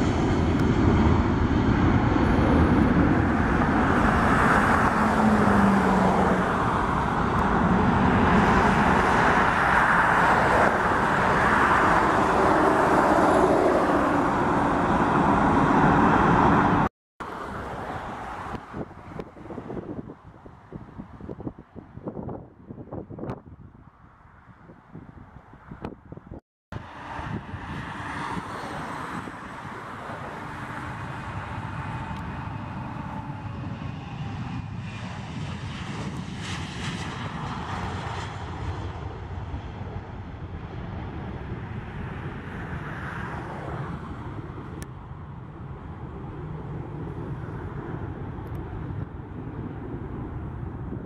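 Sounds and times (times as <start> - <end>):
jet engine whine falling in pitch: 0.0 - 18.6, 26.8 - 51.0
jet engines at takeoff thrust: 0.0 - 51.0.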